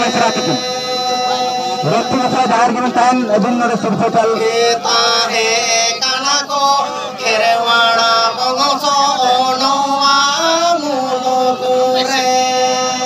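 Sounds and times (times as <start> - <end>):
man singing through loudspeaker: 0.0 - 13.0
steady held tone: 0.0 - 13.0.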